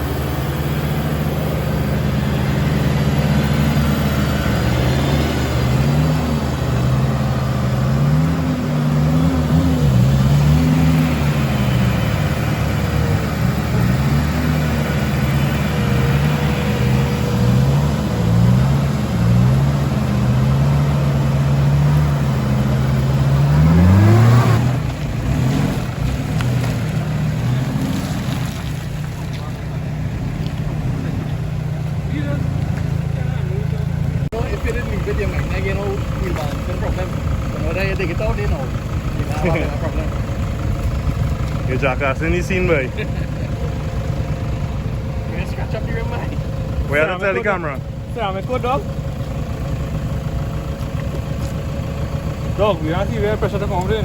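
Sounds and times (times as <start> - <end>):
off-road engine revving: 0.0 - 54.0.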